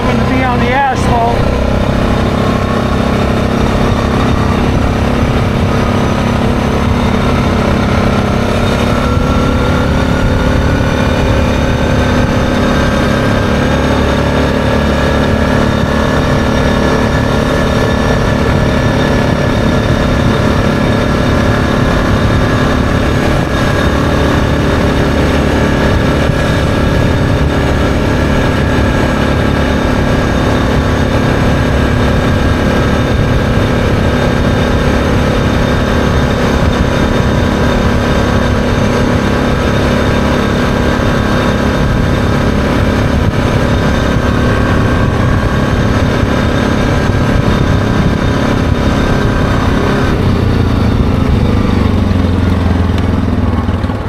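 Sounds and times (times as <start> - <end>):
atv engine running: 0.0 - 54.0
wind rumble on microphone: 0.0 - 54.0.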